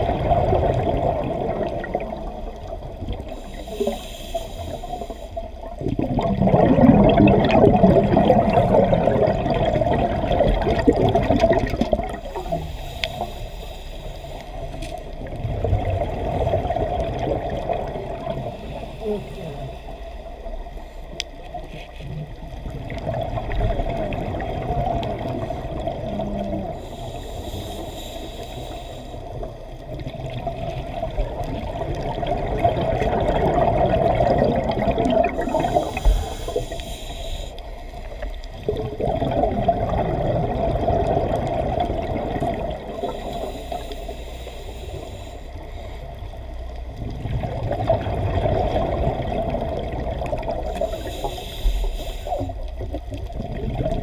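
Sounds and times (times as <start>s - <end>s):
rushing gurgling water: 0.0s - 13.3s, 14.5s - 19.0s, 21.5s - 27.9s, 29.3s - 43.9s, 46.2s - 54.0s
scuba bubbles hissing: 0.0s - 20.9s, 22.2s - 54.0s.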